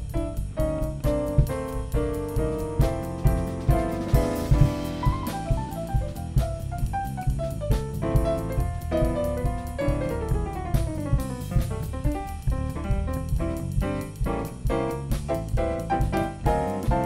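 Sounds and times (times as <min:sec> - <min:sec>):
drum kit: 0:00.0 - 0:17.0
electric bass: 0:00.0 - 0:17.0.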